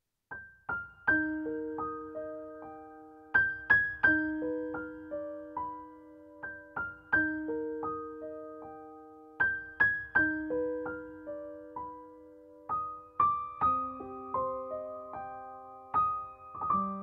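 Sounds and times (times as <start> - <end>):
gentle piano melody: 0.3 - 17.0.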